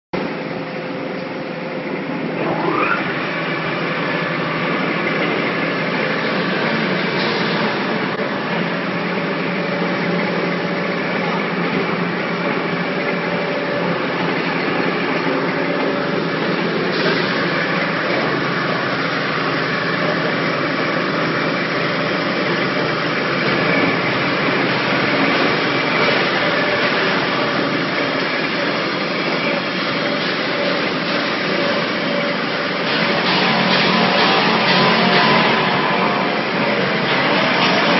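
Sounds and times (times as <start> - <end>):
shredder machine running: 0.2 - 37.9.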